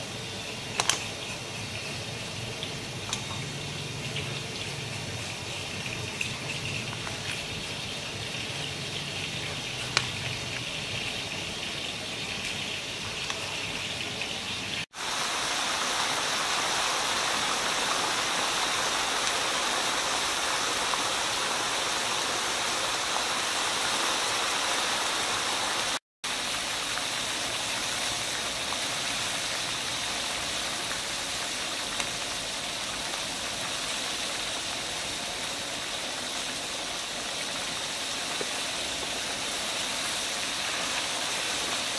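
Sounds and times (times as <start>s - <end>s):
crab sizzling in wok: 0.0s - 41.9s.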